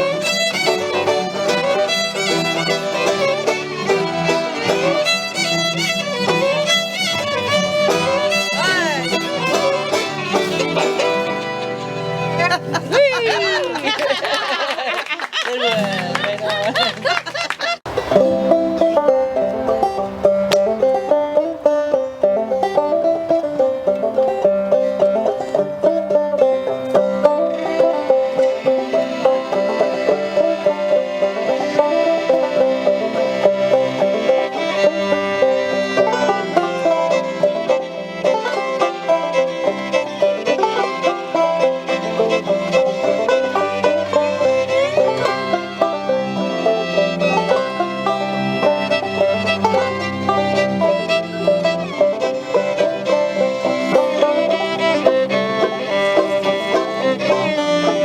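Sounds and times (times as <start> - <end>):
acoustic string band playing folk: 0.0 - 58.0.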